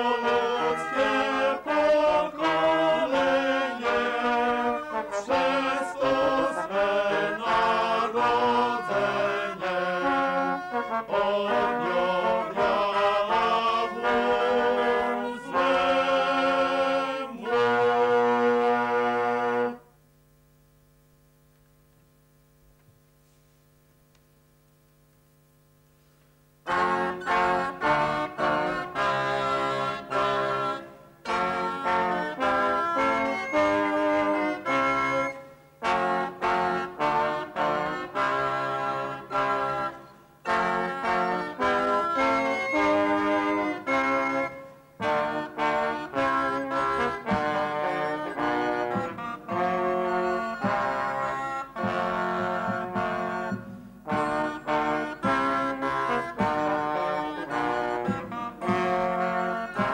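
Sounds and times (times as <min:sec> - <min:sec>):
brass music: 0:00.0 - 0:19.9, 0:26.6 - 0:59.9
wind ensemble playing lively tune: 0:00.0 - 0:19.9, 0:26.7 - 0:59.9.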